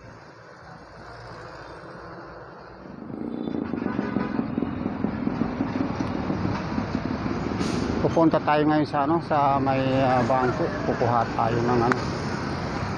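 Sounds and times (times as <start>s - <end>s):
passing vehicle engine: 0.0s - 12.9s
street traffic: 0.0s - 12.9s.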